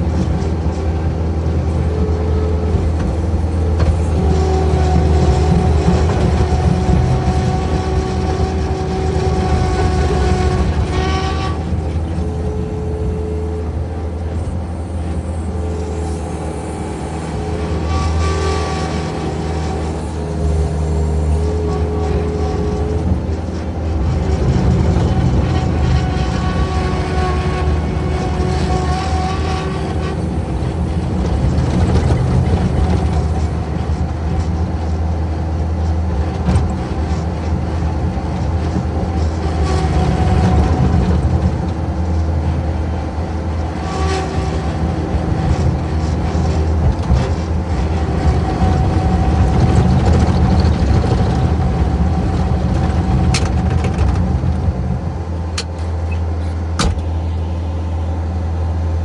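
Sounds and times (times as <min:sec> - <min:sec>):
heavy engine humming: 0:00.0 - 0:59.0.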